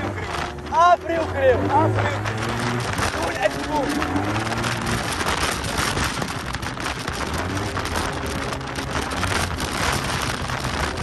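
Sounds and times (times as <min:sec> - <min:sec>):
scooter engine running: 0:00.0 - 0:11.0
wind rushing over microphone: 0:00.0 - 0:11.0.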